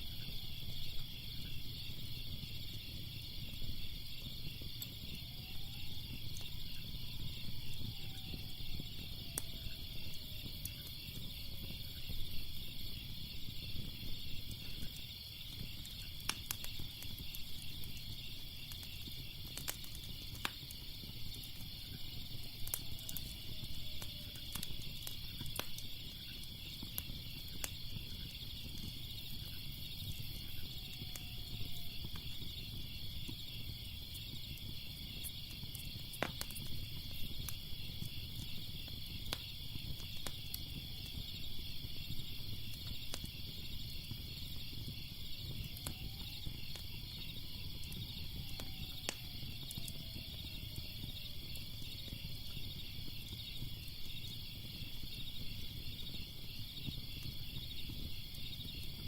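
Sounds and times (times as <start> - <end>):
crickets chorus: 0.0 - 59.0
wood fire crackling: 0.0 - 59.0.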